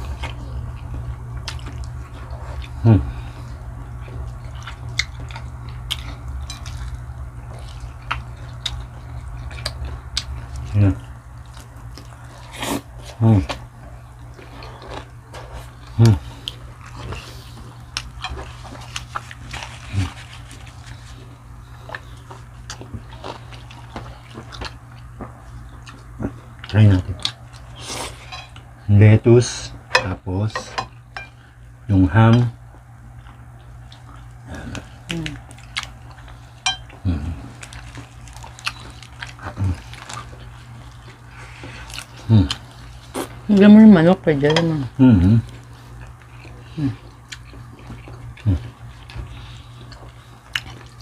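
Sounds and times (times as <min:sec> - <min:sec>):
chewing with wet lip smacks: 0:00.0 - 0:27.8, 0:32.7 - 0:43.5, 0:45.4 - 0:51.0
low hum: 0:00.0 - 0:51.0.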